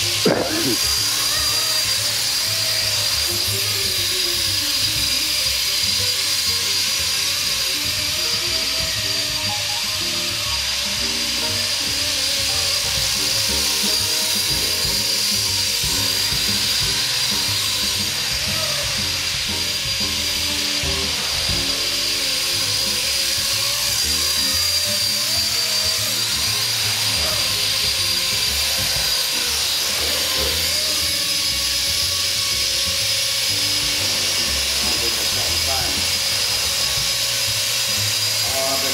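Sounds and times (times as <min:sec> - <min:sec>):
background music: 0:00.0 - 0:38.9
rc helicopter rotor whine: 0:00.0 - 0:38.9.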